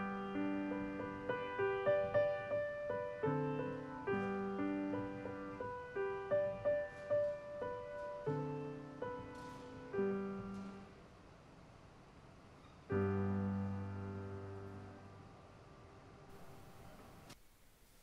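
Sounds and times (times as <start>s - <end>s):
slow grand piano piece: 0.0s - 18.0s.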